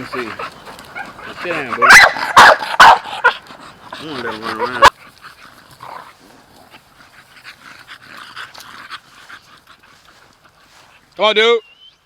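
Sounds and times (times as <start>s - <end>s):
dog panting: 0.0s - 11.2s.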